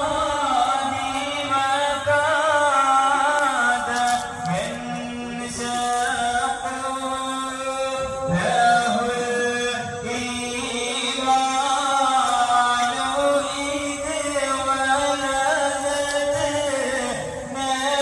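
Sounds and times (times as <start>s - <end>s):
chanted devotional song: 0.0s - 18.0s.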